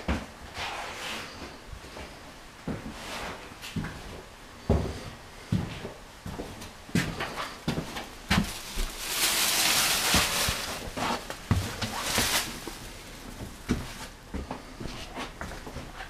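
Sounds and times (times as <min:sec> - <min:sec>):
footsteps: 0:00.0 - 0:16.0.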